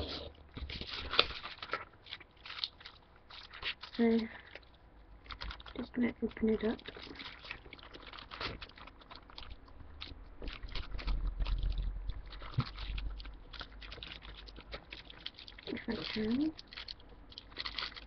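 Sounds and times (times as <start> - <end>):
foil wrapper crinkling: 0.0 - 18.0.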